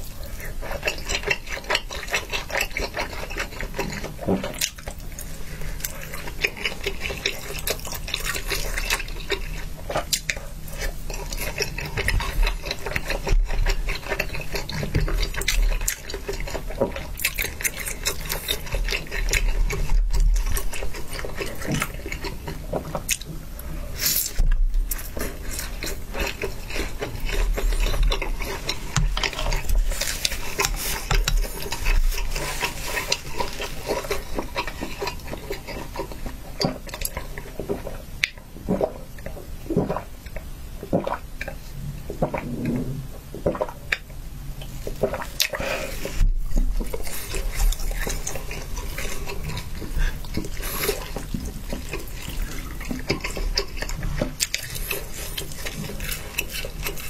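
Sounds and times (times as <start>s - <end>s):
wet chewing mouth sounds: 0.0s - 57.0s.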